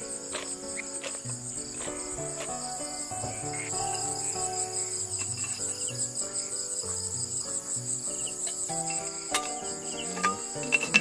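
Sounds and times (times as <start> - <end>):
crickets chirring: 0.0 - 11.0
soft instrumental music: 0.0 - 11.0.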